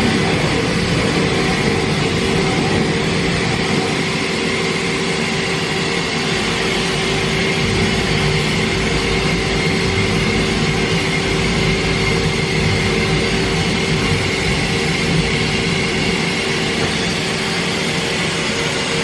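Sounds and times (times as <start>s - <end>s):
machining center running: 0.0s - 19.0s.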